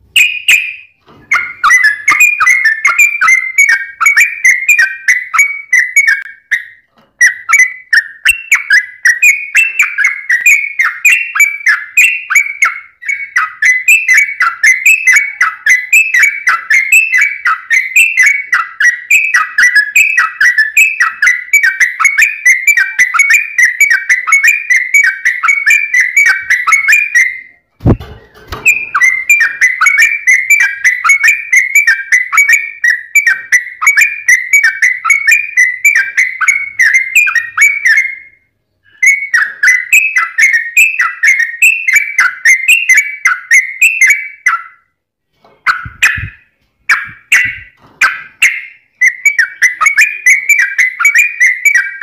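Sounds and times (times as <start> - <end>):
bulbul singing whistled notes: 0.2 - 44.9, 45.7 - 52.0.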